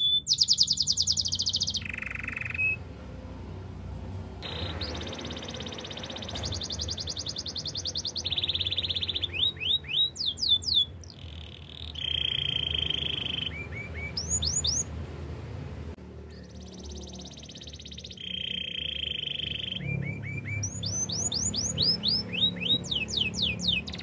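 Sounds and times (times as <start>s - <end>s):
canary trilling: 0.0s - 2.8s, 4.4s - 15.0s, 16.3s - 24.0s
sweeping whistled bird notes: 0.0s - 2.8s, 4.4s - 14.9s, 16.3s - 24.0s.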